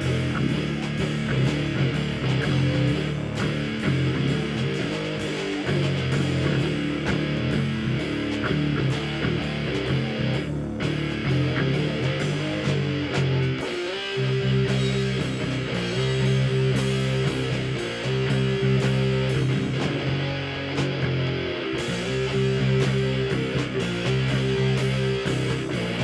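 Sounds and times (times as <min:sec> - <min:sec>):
electric bass: 0:00.0 - 0:26.0
electric guitar: 0:00.0 - 0:26.0.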